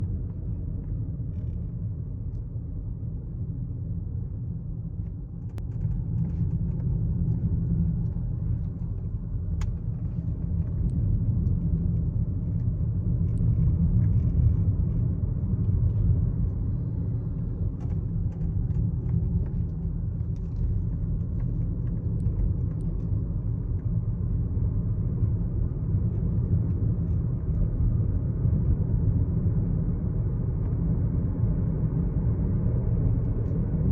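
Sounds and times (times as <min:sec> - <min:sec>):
car cabin low rumble: 0:00.0 - 0:33.9.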